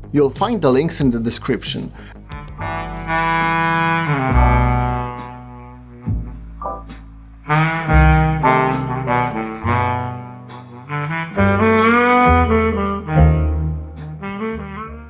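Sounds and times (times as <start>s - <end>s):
sustained bass notes: 0.0s - 15.0s
jazz horn melody: 2.2s - 15.0s.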